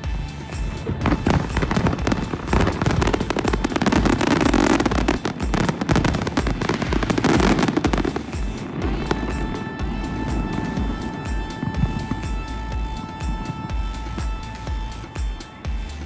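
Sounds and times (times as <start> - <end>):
background music: 0.0 - 16.0
fireworks bangs and crackles: 0.0 - 16.0.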